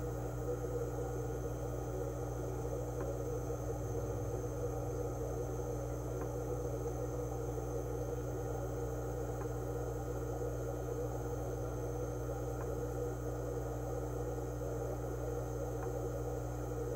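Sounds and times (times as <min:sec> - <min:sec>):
aquarium equipment humming: 0:00.0 - 0:16.9.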